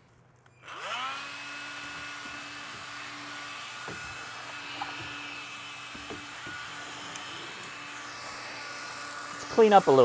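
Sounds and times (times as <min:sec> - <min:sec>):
handheld vacuum cleaner whine: 0:00.5 - 0:10.0.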